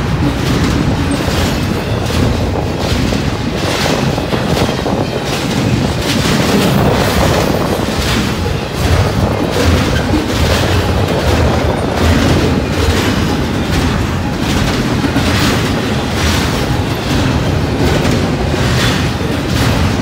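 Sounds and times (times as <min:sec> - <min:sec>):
train wheels rumbling on rail: 0:00.0 - 0:20.0
wheels clacking over rail joints: 0:00.0 - 0:20.0.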